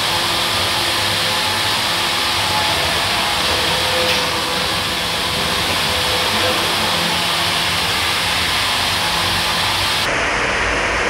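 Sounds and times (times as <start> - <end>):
loud rushing hiss: 0.0 - 11.0.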